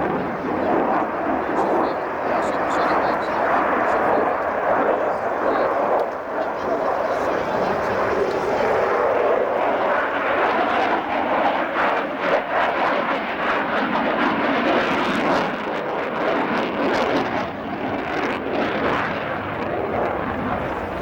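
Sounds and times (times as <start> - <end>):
aircraft engine rushing noise: 0.0 - 21.0.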